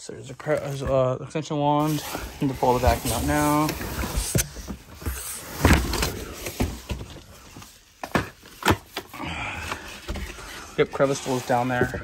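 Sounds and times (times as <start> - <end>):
cardboard and packaging rustling: 1.8 - 12.0.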